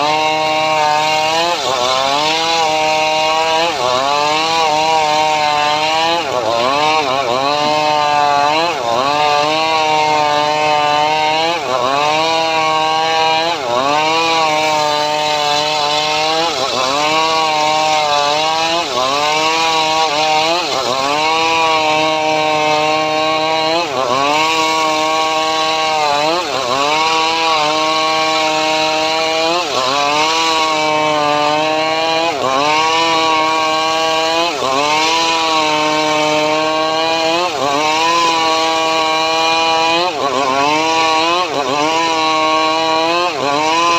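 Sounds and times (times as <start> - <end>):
sawmill engine labouring: 0.0 - 43.9.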